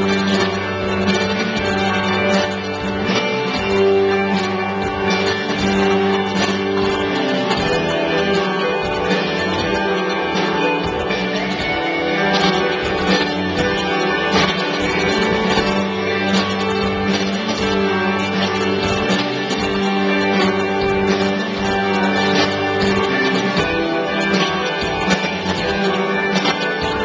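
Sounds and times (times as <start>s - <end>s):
guitar music: 0.0s - 27.0s.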